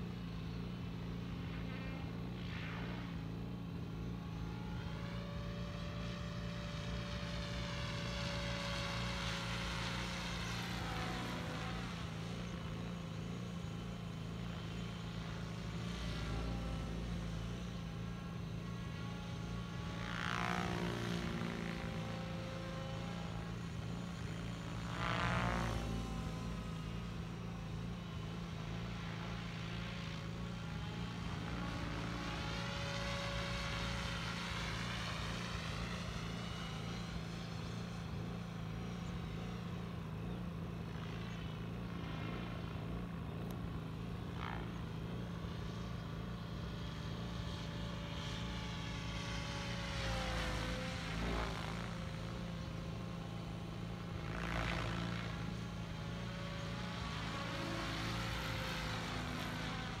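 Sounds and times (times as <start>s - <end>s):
model helicopter rotor drone: 0.0s - 60.0s.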